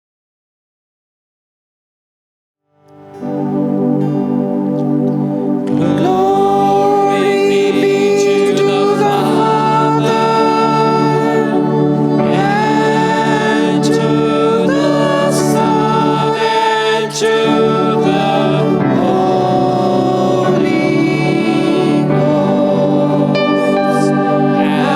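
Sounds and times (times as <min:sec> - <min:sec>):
music: 0:02.7 - 0:24.9
choir singing: 0:03.2 - 0:24.9.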